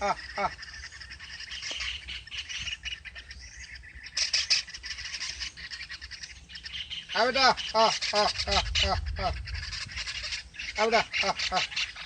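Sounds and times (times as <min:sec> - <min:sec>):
kingfishers chirping: 0:00.0 - 0:12.0.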